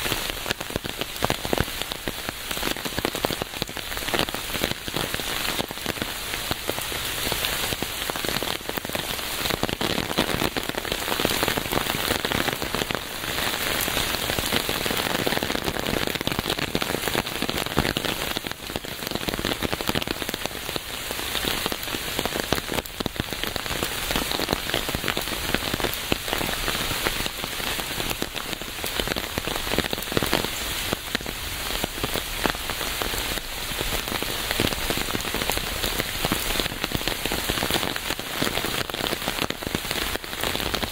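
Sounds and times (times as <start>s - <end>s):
rain on a hard surface: 0.0s - 40.9s.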